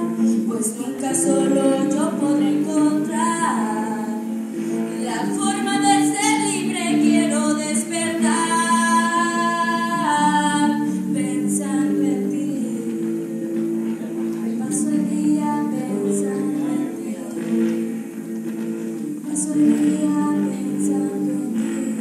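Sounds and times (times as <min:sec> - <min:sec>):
woman singing into microphone: 0:00.0 - 0:18.2, 0:19.0 - 0:22.0
electric guitar accompaniment: 0:00.0 - 0:22.0.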